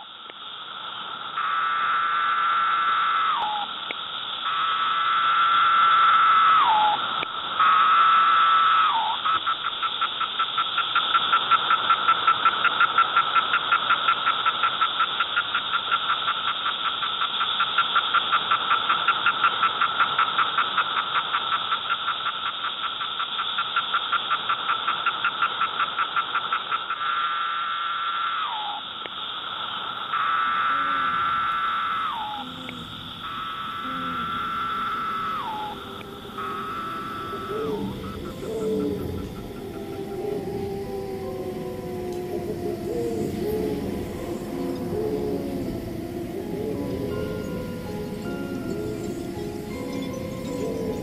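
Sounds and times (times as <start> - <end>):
cicadas buzzing: 0.0 - 51.0.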